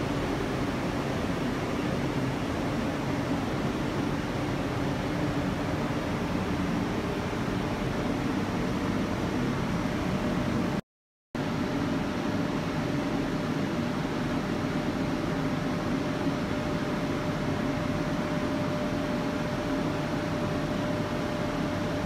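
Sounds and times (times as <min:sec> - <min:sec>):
dehumidifier humming with whine: 0:00.0 - 0:10.8, 0:11.4 - 0:22.0.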